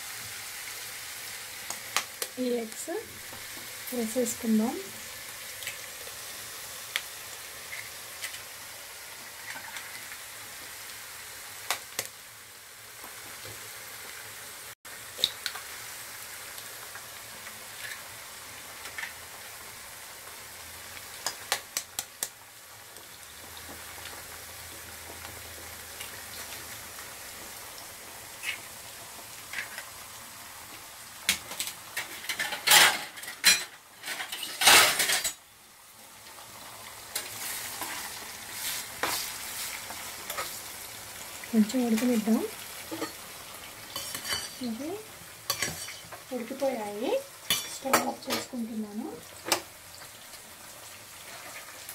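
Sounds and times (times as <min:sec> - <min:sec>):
eggs sizzling in hot oil: 0:00.0 - 0:51.9.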